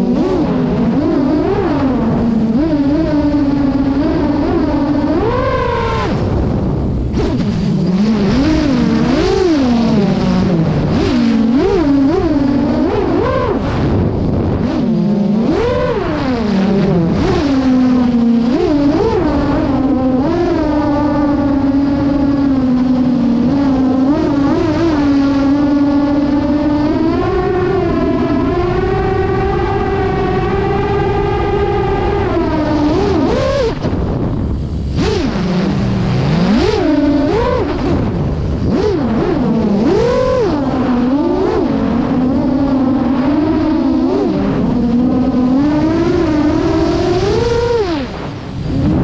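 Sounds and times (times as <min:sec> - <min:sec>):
quadcopter propeller buzz: 0:00.0 - 0:49.0.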